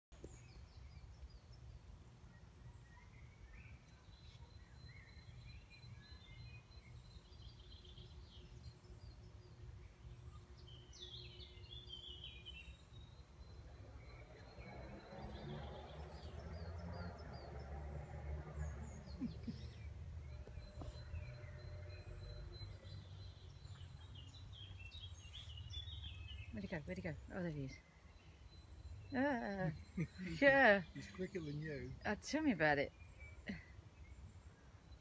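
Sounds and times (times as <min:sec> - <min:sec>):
small birds chirping: 0:00.1 - 0:35.0.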